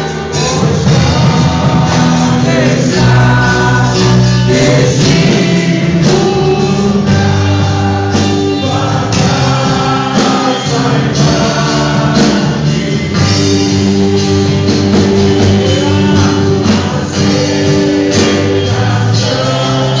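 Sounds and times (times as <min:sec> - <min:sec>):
gospel band playing: 0:00.0 - 0:20.0
person singing: 0:00.0 - 0:20.0.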